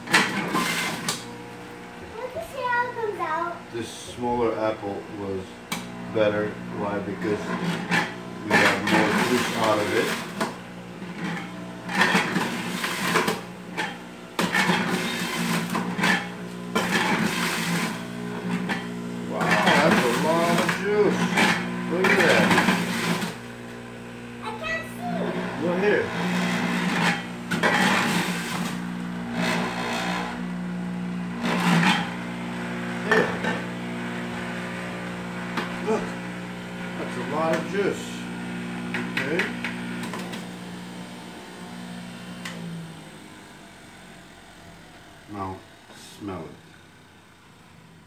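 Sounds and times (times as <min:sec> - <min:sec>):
fruit grinding in juicer: 0:00.0 - 0:48.0
juicer motor hum: 0:00.0 - 0:48.0.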